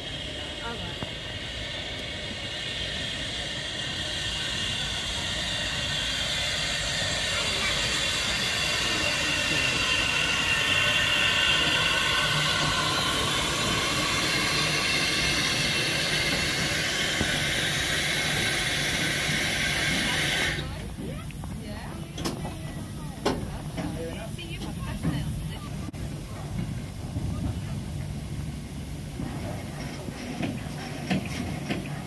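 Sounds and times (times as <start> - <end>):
steam hissing: 0.0 - 32.0
train wheels rumbling on rails: 0.0 - 32.0.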